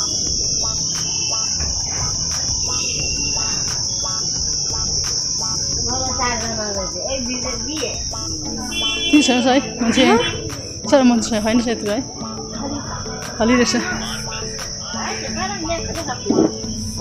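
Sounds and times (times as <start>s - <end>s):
people's voices: 0.0s - 17.0s
steady high-pitched whine: 0.0s - 17.0s.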